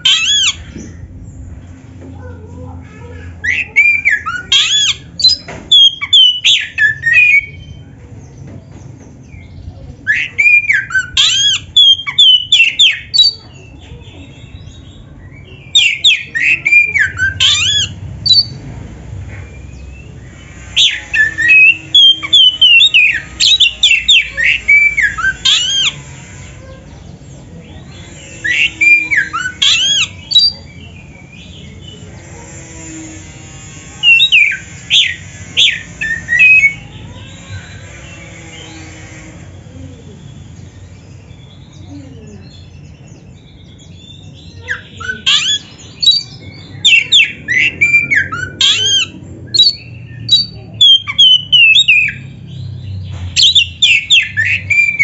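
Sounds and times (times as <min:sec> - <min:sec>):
magpie-robin singing: 0:00.0 - 0:18.7, 0:19.4 - 0:55.0.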